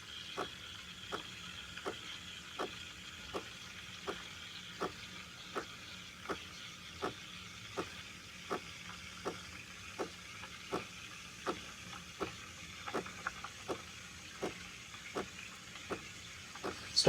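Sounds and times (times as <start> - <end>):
espresso machine pump clicking: 0.0 - 17.0.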